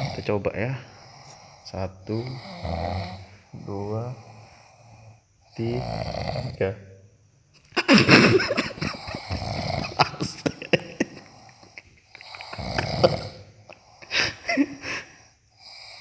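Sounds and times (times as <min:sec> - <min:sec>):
man snoring heavily: 0:00.0 - 0:06.8, 0:07.8 - 0:16.0.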